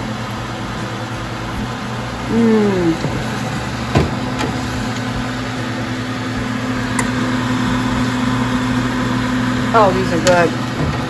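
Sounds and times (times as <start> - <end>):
food dehydrator fan humming: 0.0 - 11.0.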